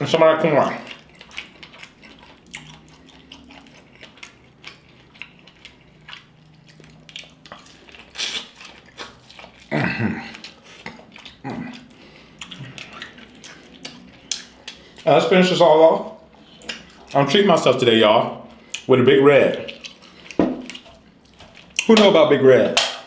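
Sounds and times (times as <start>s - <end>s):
wet biting and chewing: 0.6s - 15.1s, 16.2s - 17.2s, 18.5s - 22.1s.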